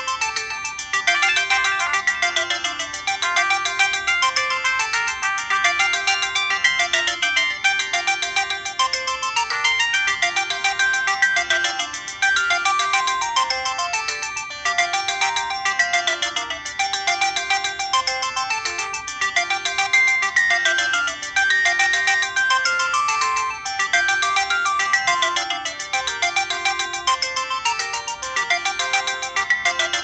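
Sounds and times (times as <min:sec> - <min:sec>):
synthesized phone ringtone: 0:00.0 - 0:30.0.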